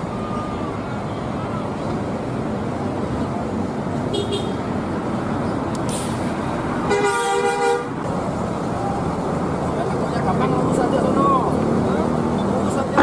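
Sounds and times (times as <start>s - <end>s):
engine and road traffic noise: 0.0s - 13.0s.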